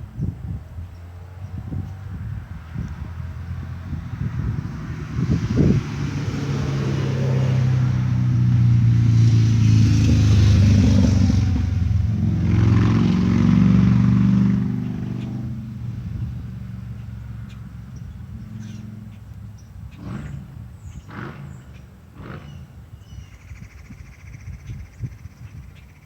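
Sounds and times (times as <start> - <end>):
engine humming: 0.4 - 23.4.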